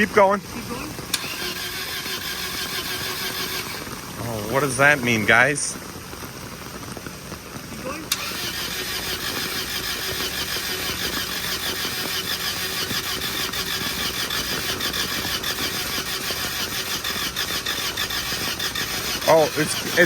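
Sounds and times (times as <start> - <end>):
starter motor cranking engine: 0.0 - 5.9, 7.8 - 20.0.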